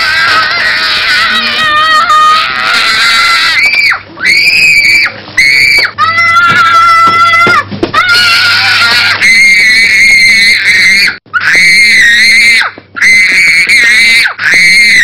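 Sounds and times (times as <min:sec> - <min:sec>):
child screaming: 0:00.0 - 0:15.0.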